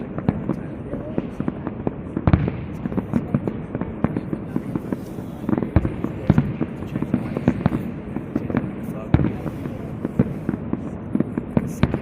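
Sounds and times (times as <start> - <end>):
fireworks bangs and crackles: 0.0 - 12.0
loud fireworks booms: 0.0 - 12.0.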